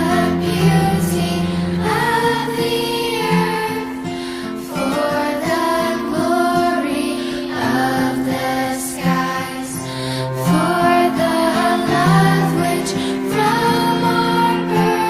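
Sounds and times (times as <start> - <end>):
gentle guitar: 0.0 - 15.0
woman singing: 0.0 - 15.0.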